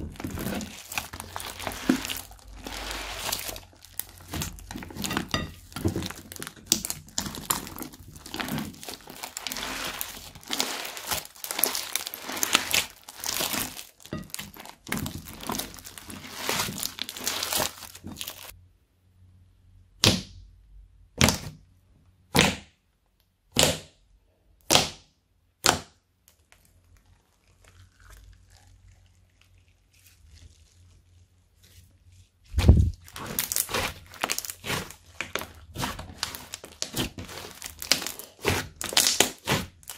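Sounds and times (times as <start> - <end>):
slime squelching: 0.0 - 18.6, 25.6 - 39.9.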